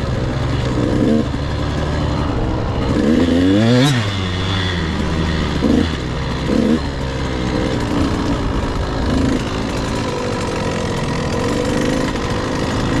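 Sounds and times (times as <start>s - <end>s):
dirt bike engine at low revs: 0.0s - 13.0s.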